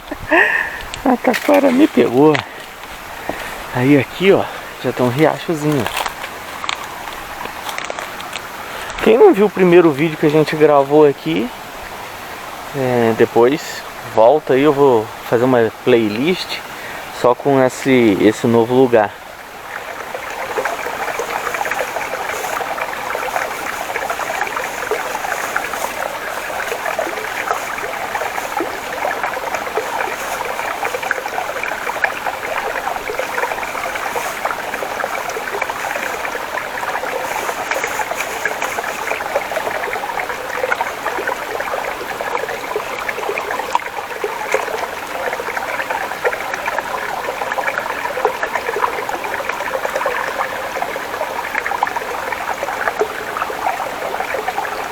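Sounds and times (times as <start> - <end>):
stream babbling over rocks: 0.0 - 54.9.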